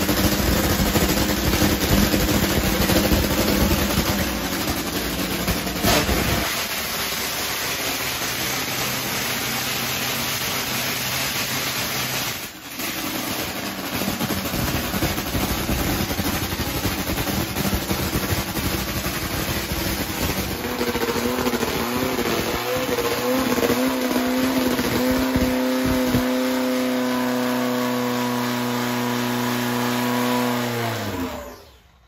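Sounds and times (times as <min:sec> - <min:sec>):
drag motorcycle engine: 0:00.0 - 0:32.0.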